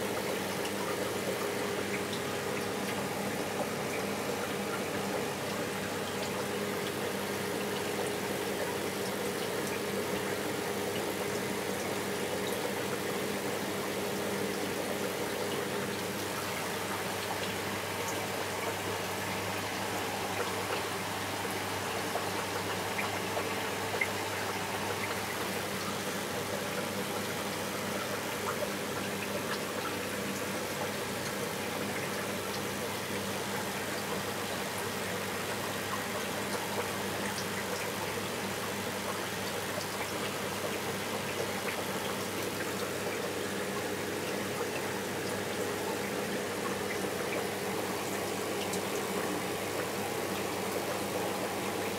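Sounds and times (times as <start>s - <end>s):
aquarium pumps humming: 0.0s - 51.9s.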